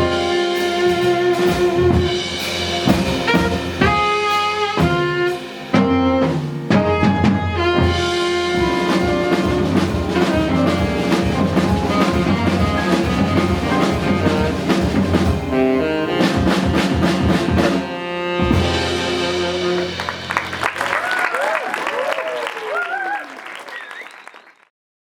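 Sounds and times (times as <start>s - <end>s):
saxophone: 0.0s - 20.8s
drum kit: 0.0s - 21.6s.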